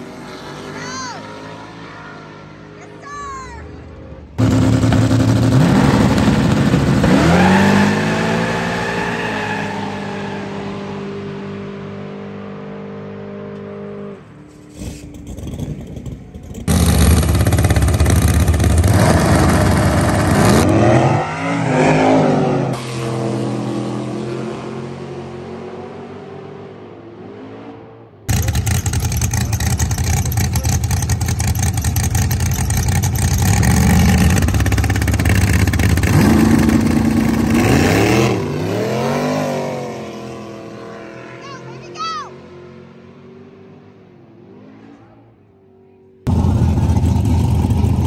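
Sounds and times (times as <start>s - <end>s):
drag racing cars revving: 4.0s - 48.0s.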